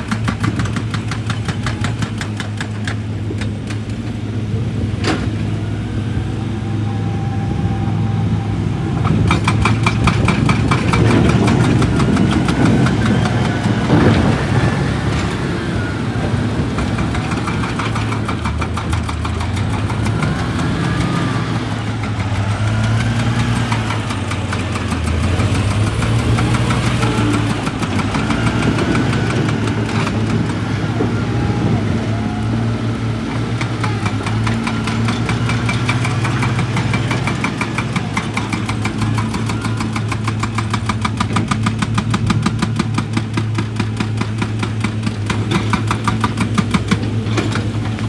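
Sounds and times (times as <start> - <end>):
diesel excavator engine running: 0.0 - 48.0.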